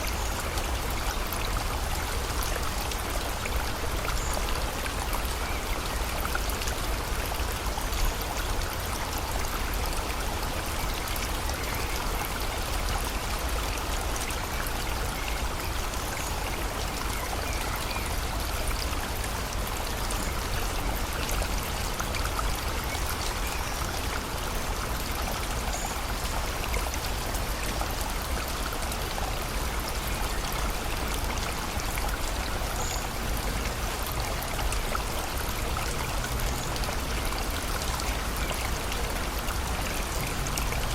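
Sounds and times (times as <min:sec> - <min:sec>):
rain: 0:00.0 - 0:40.9
river flowing: 0:00.0 - 0:40.9.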